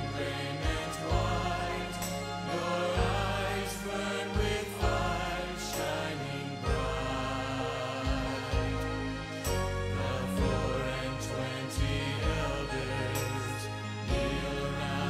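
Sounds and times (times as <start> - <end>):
worship song: 0.0 - 15.0.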